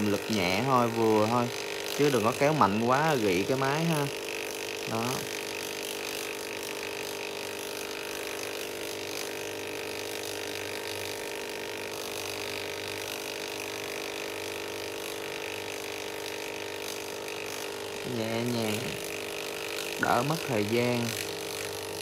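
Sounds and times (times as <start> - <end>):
stencil copier motor humming: 0.0 - 22.0.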